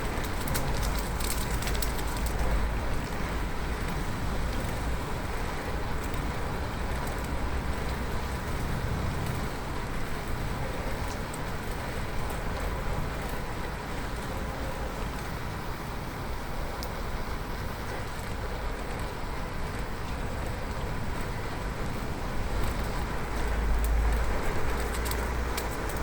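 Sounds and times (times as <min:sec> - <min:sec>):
bicycle tyre noise: 0:00.0 - 0:26.0
motor traffic: 0:00.0 - 0:26.0.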